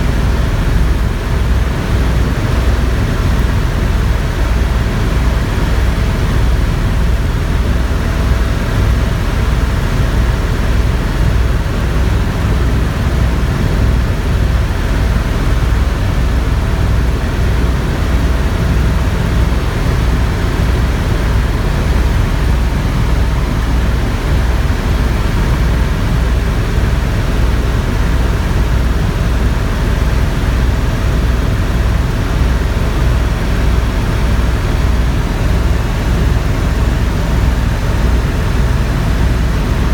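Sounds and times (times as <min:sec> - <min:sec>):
helicopter in flight: 0:00.0 - 0:39.9.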